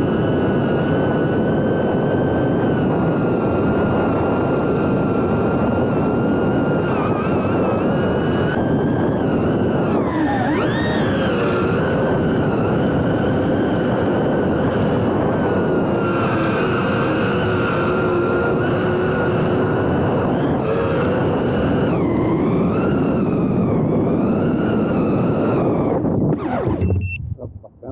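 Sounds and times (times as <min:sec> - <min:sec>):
drone motors whining: 0:00.7 - 0:27.9.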